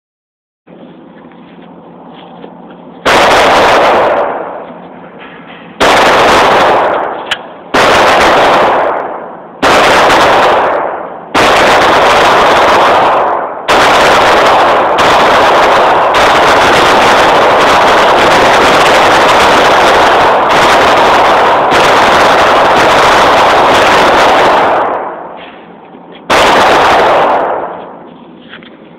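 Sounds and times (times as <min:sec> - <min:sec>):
pistol shots: 0:03.0 - 0:04.6, 0:05.8 - 0:28.0.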